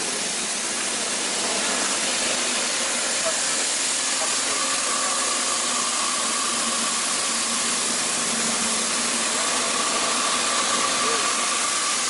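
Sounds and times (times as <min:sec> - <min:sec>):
loud even hiss: 0:00.0 - 0:12.0.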